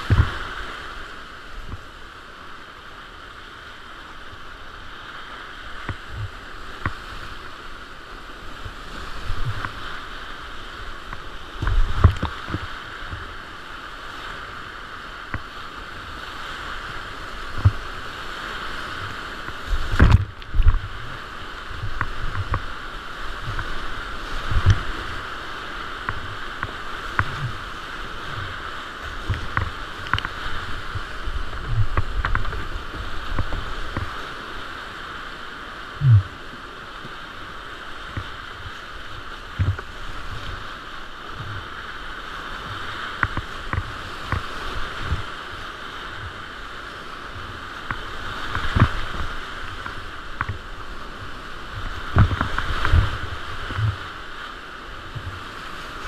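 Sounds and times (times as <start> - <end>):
paddle and wave thumps on hull: 0.0 - 1.9, 5.6 - 7.5, 8.5 - 13.4, 15.2 - 34.9, 35.9 - 56.0
whitewater rapids rushing: 0.0 - 56.0.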